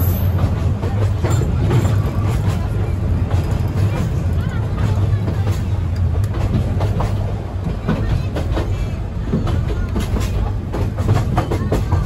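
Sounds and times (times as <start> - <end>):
train carriage rumbling: 0.0 - 12.0
wheels clattering on rails: 0.0 - 12.0.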